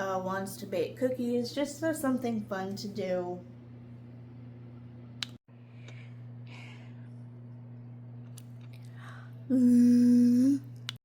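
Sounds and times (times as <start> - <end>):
steady low hum: 0.0 - 11.0
loud hummed tone: 1.8 - 11.0.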